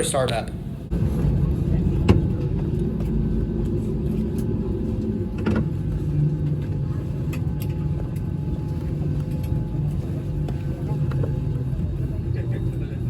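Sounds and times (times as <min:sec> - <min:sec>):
jet engine low rumble: 0:00.0 - 0:13.0.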